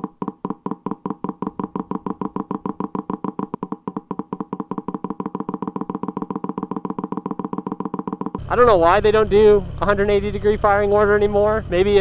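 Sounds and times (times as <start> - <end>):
engine putt-putt pulses: 0.0 - 12.0.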